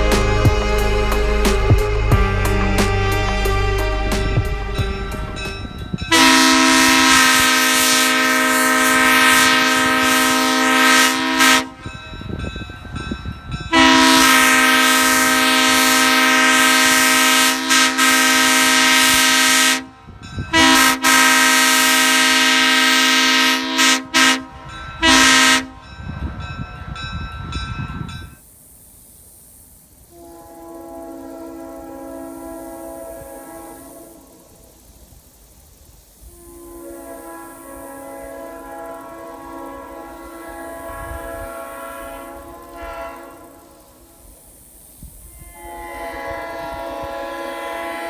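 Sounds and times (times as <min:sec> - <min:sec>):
train horn chord blasts: 0:00.0 - 0:12.5, 0:13.6 - 0:26.2, 0:30.1 - 0:34.5, 0:36.3 - 0:44.2, 0:45.3 - 0:48.0.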